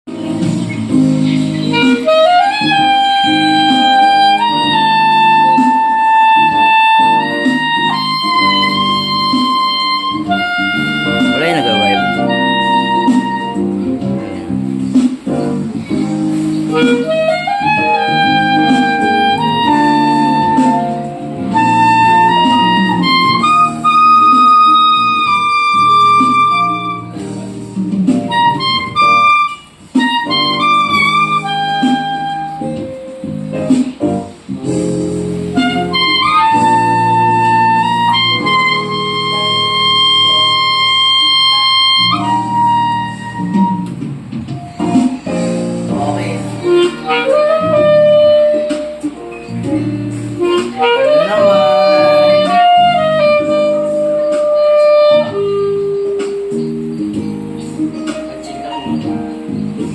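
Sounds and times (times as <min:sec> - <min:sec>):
guitar: 0:00.0 - 0:59.9
piano: 0:00.0 - 0:59.9
clarinet melody: 0:00.1 - 0:59.9.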